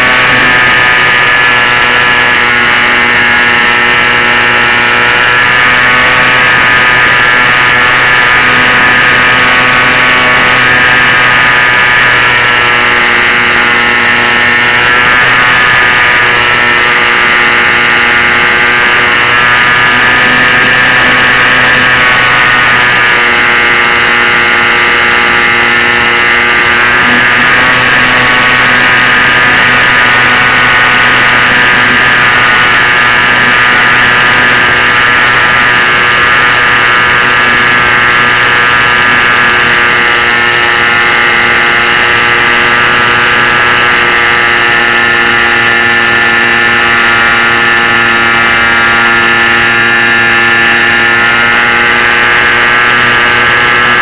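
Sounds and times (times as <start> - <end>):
model plane motor buzzing: 0.0 - 54.0.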